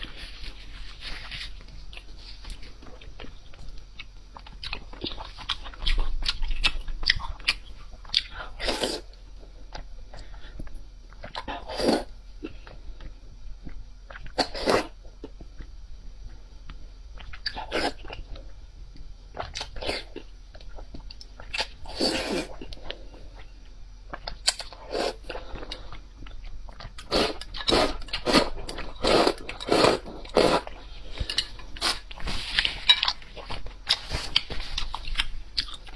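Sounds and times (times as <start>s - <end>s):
person chewing crisp food: 0.0s - 15.7s, 17.2s - 18.5s, 19.3s - 23.5s, 24.1s - 35.9s.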